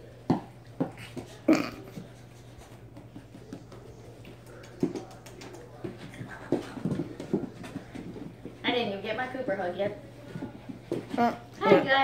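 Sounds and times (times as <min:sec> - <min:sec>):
puppies scuffling and tapping: 0:00.2 - 0:12.0.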